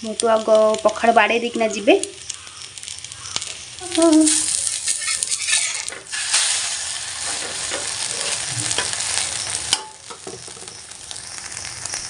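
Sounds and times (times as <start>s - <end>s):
omelette sizzling in a pan: 0.0s - 12.0s.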